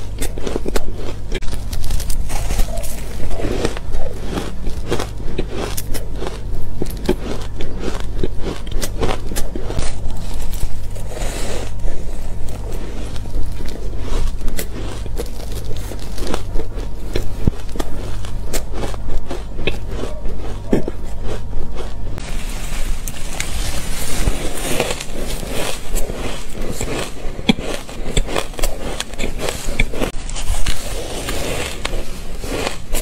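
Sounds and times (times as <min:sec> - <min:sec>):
chewing and crunching ice: 0:00.0 - 0:22.3, 0:22.9 - 0:33.0
steady low hum: 0:00.0 - 0:33.0.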